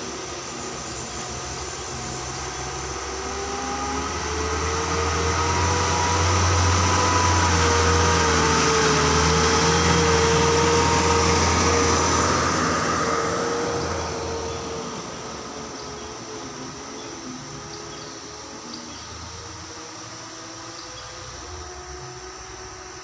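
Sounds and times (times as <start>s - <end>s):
diesel truck engine drone: 0.0s - 23.0s.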